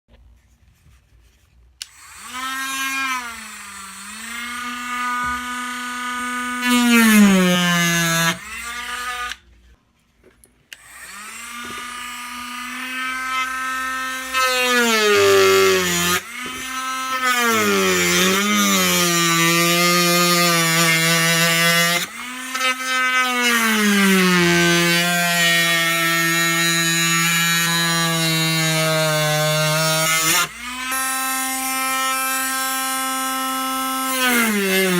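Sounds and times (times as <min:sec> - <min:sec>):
electric power drill whining: 0:01.8 - 0:09.4, 0:10.7 - 0:34.9.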